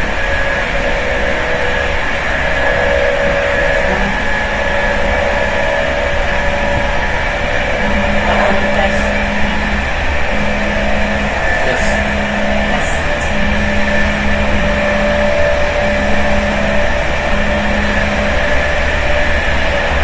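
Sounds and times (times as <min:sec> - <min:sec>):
electric whine: 0:00.0 - 0:20.0
low hum: 0:00.0 - 0:20.0
train carriage rumble: 0:00.0 - 0:20.0.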